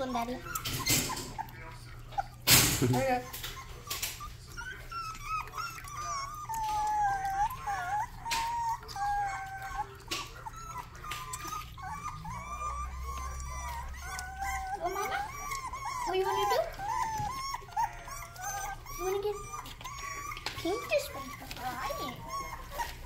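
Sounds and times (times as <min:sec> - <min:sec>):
puppies whining and crying: 0:00.0 - 0:23.0.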